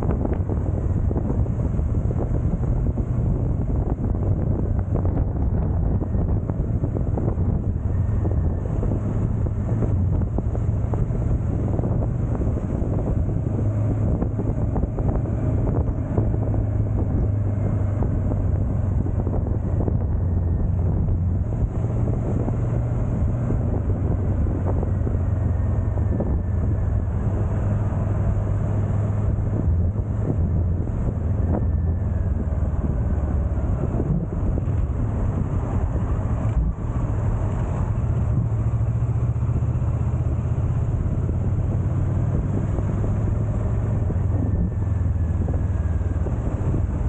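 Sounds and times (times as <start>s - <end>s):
motorcycle engine cruising: 0.0s - 47.0s
wind buffeting microphone: 0.0s - 47.0s.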